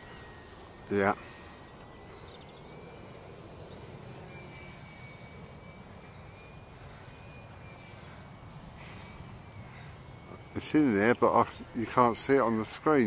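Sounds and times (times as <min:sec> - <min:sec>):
model airplane motor whine: 0:00.0 - 0:13.0.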